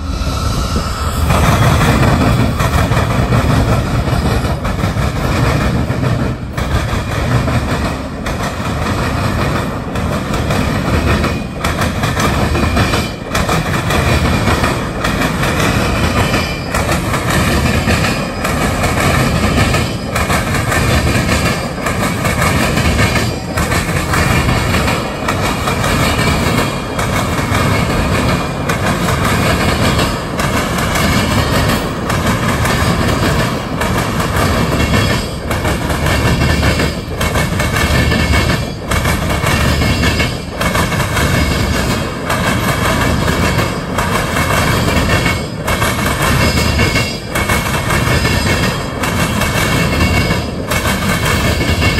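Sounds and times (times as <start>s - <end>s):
diesel locomotives rumbling: 0.0s - 51.9s
train wheels clickety-clack: 0.0s - 51.9s.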